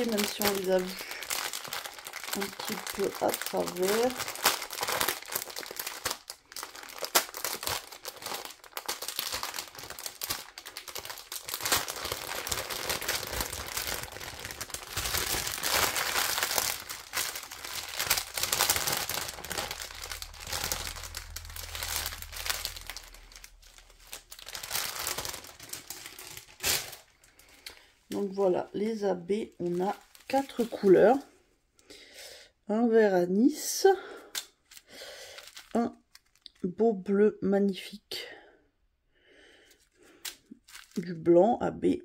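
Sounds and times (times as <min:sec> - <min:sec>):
plastic bags crinkling: 0:00.0 - 0:31.3, 0:34.2 - 0:36.6, 0:39.7 - 0:41.3.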